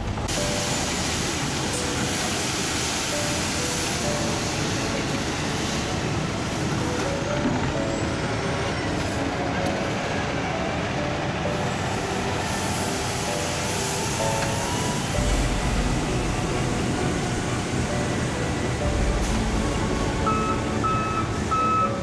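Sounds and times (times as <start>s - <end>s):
street sweeper running: 0.0s - 22.0s.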